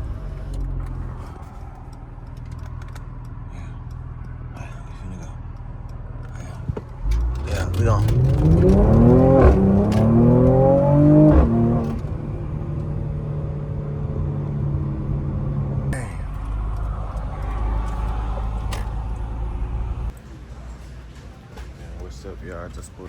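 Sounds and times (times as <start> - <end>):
car engine accelerating: 0.0 - 20.2
low road rumble: 0.0 - 22.3.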